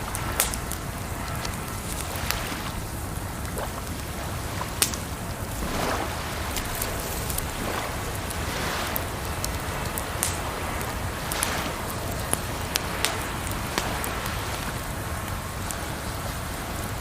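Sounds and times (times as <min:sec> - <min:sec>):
campfire crackling and popping: 0:00.0 - 0:17.0
flowing water: 0:00.0 - 0:17.0.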